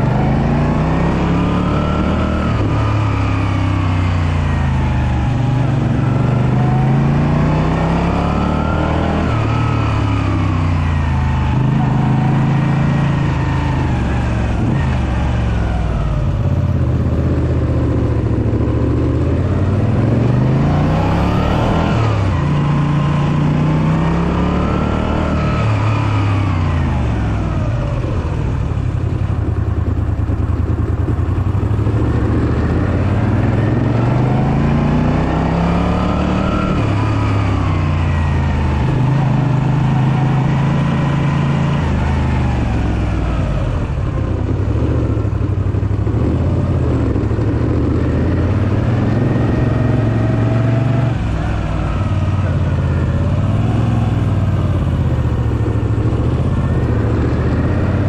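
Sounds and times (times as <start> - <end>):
motorcycle engine revving uphill: 0.0 - 58.0.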